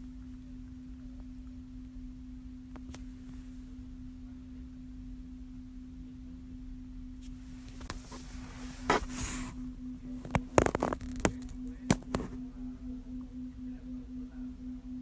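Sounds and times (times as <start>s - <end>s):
car electrical hum: 0.0s - 15.0s.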